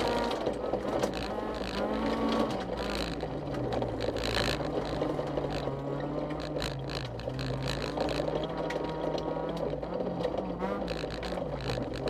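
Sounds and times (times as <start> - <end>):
gravel rattling against underside: 0.0 - 12.0
rally car engine from cabin: 0.0 - 12.0.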